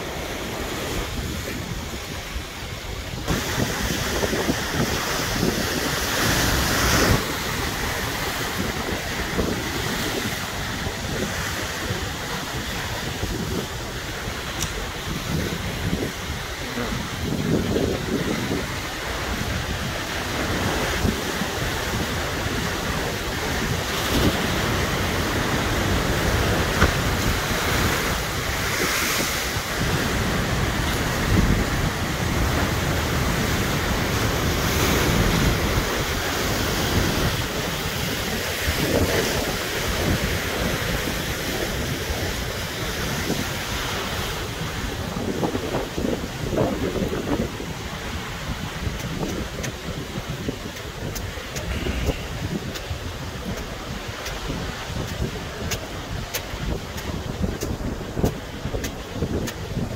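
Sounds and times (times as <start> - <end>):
waves breaking over rocks: 0.0 - 59.9
wind buffeting microphone: 0.0 - 59.9.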